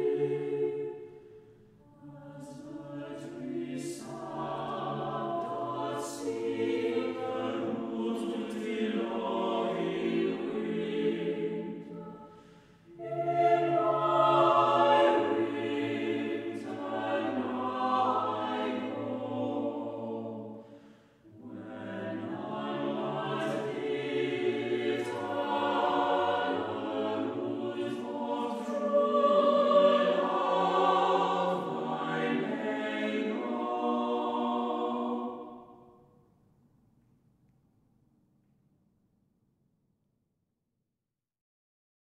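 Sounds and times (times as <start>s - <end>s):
choir singing a cappella: 0.0s - 36.0s.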